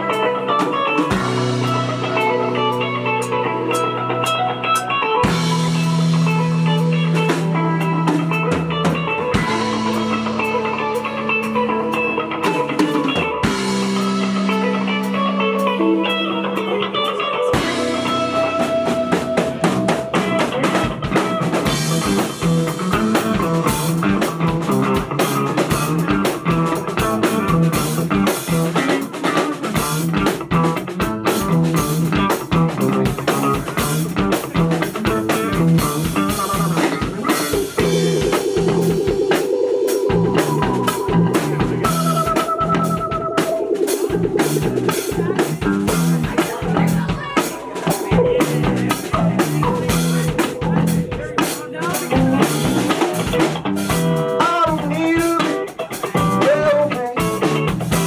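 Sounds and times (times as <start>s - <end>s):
band playing instrumental: 0.0s - 58.0s
drum kit: 0.0s - 58.0s
guitar: 0.0s - 58.0s.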